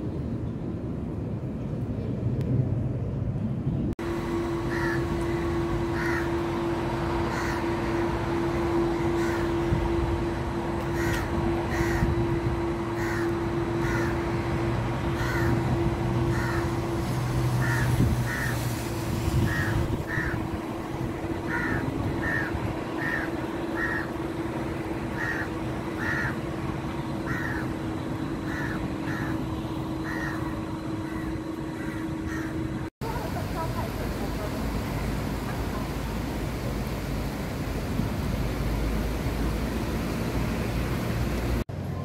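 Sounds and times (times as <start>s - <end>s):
low outdoor rumble: 0.0s - 42.0s
steady hum: 0.0s - 42.0s.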